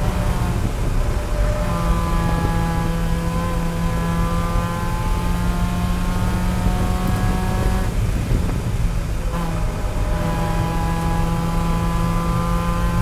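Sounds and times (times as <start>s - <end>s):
race car engine at high revs: 0.0s - 13.0s
road and wind rumble: 0.0s - 13.0s.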